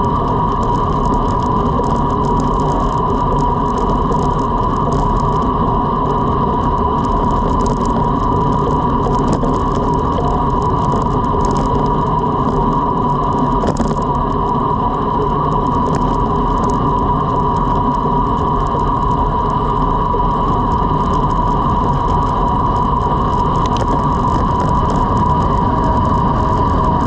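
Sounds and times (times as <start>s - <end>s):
bicycle tyre and drivetrain hum: 0.0s - 27.0s
wind noise: 0.0s - 27.0s.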